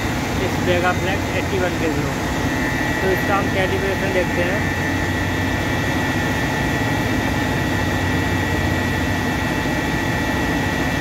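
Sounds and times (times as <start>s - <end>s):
industrial machinery droning: 0.0s - 11.0s.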